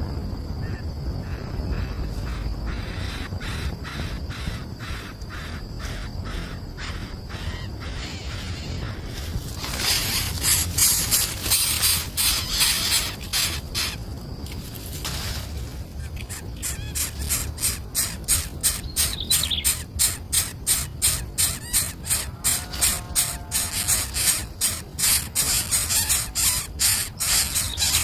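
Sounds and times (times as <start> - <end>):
birds harsh calls: 1.3 - 14.0, 15.9 - 28.0
birds squawking: 2.3 - 14.0, 16.0 - 28.0.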